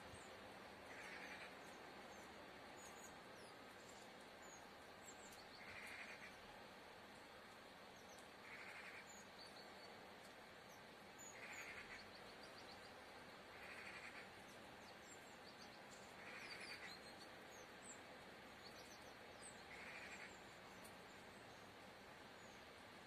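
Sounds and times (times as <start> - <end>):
small songbirds calling: 0.0 - 23.0.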